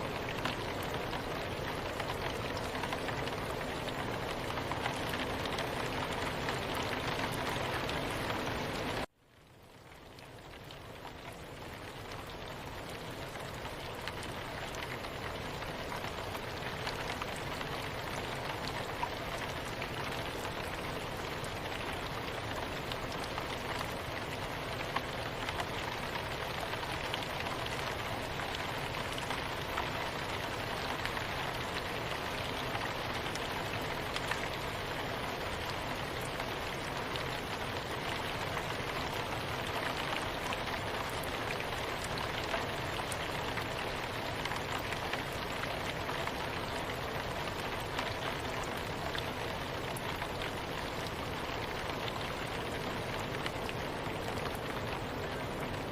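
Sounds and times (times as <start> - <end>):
soft rain falling: 0.0 - 55.9.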